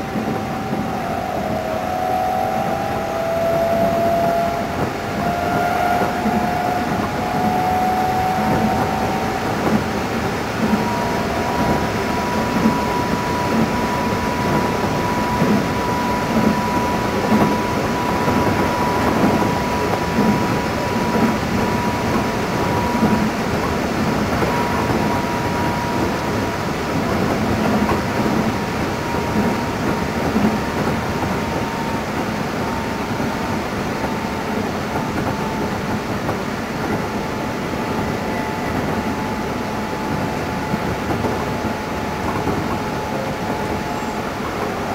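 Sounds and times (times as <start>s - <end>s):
thin high whine: 0.0s - 44.9s
train wheels rumbling on rail: 0.0s - 44.9s.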